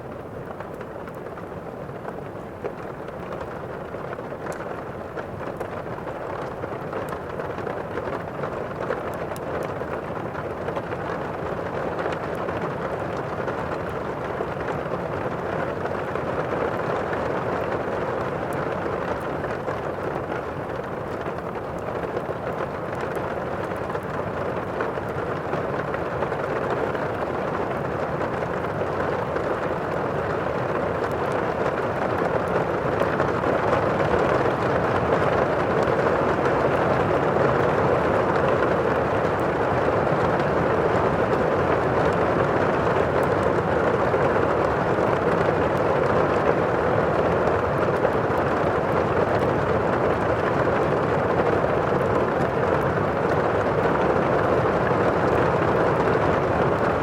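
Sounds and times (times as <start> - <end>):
faint crackles: 0.0 - 57.0
rushing rain: 0.0 - 57.0.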